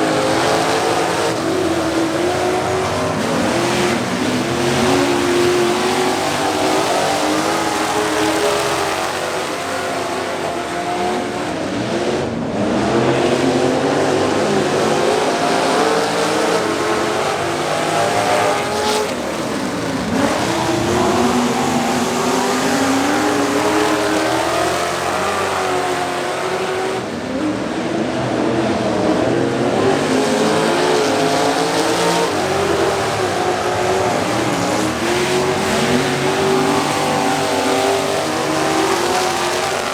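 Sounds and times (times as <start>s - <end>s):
racing truck engines: 0.0s - 39.9s.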